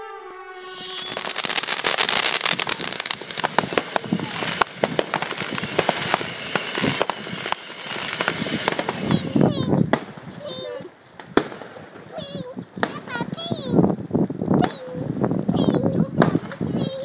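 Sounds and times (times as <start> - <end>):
fireworks bangs: 0.0 - 17.0
firecrackers crackling: 0.6 - 17.0.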